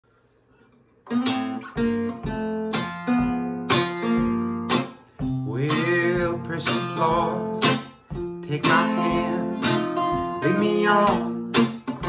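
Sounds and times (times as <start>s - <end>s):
slide guitar playing: 1.0s - 12.0s.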